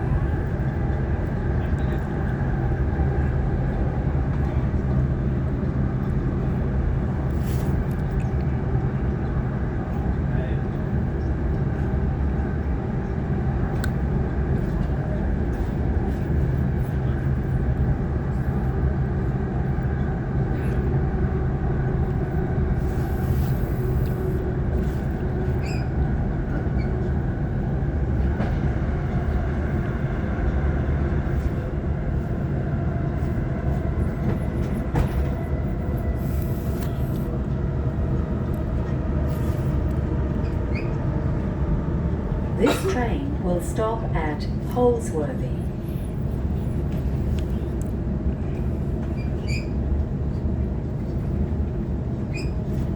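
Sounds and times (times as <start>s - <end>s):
train wheels rumbling on rails: 0.0s - 44.8s, 45.4s - 52.9s.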